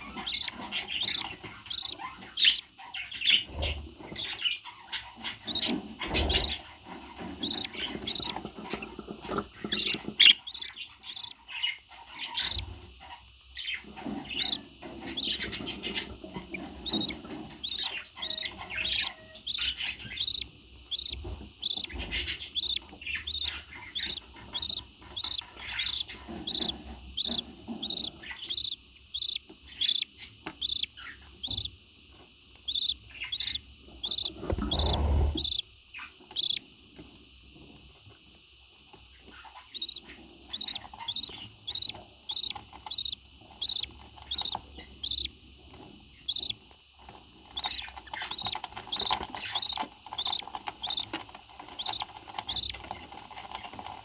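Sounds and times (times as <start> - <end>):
parrot chirping: 0.0 - 31.8, 32.5 - 36.7, 39.3 - 45.4, 46.1 - 46.6, 47.5 - 53.7.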